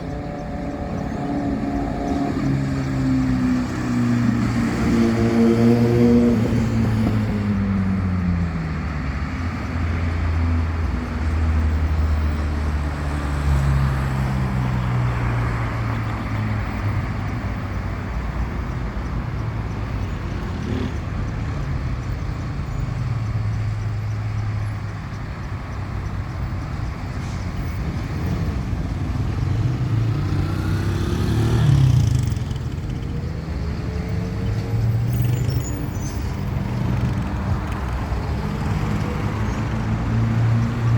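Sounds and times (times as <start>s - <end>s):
vehicles passing: 0.0s - 40.9s.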